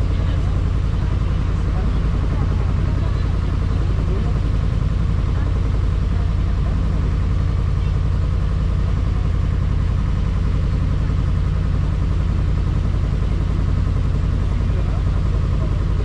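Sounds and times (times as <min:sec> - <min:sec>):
boat engine throbbing: 0:00.0 - 0:16.0.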